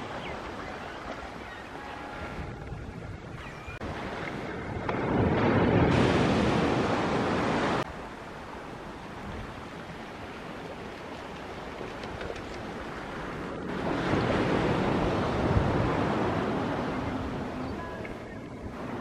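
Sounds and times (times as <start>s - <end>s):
sea surf: 0.0s - 19.0s
wind: 0.0s - 19.0s
wind gusts on microphone: 0.0s - 19.0s.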